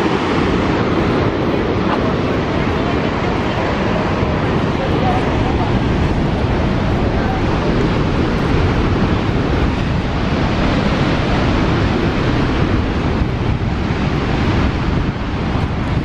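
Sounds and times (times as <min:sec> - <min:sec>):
waterfall roaring: 0:00.0 - 0:16.0
wind on microphone: 0:00.0 - 0:16.0.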